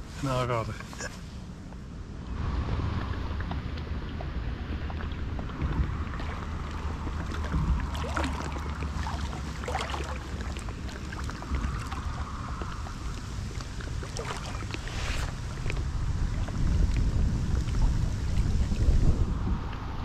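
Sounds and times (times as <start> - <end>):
wind rumbling on microphone: 0.0 - 20.0
water splashing and lapping: 2.1 - 20.0.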